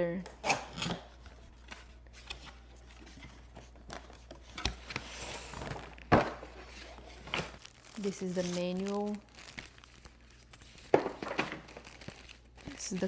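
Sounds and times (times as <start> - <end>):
cardboard and plastic rustling: 1.0 - 13.0.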